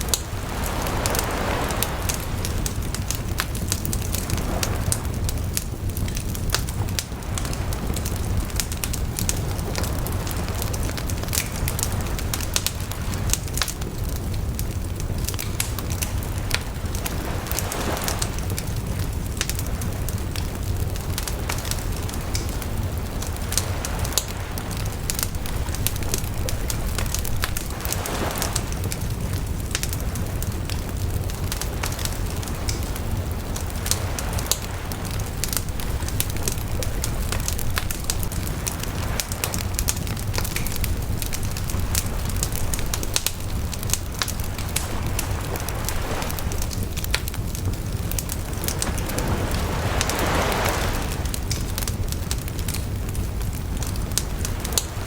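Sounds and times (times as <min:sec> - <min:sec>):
crackles and pops of burning wood: 0:00.0 - 0:55.0
fire hissing: 0:00.0 - 0:55.0
wood bonfire burning: 0:00.0 - 0:55.0.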